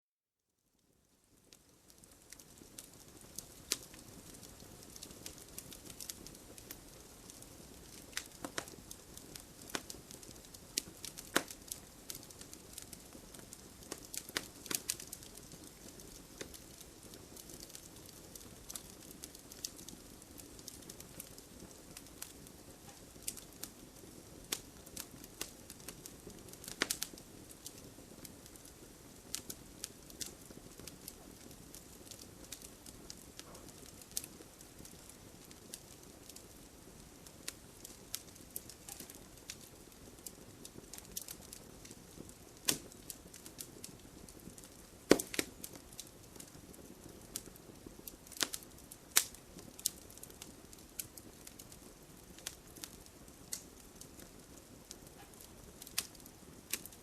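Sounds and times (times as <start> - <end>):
wood fire crackling: 0.7 - 57.0.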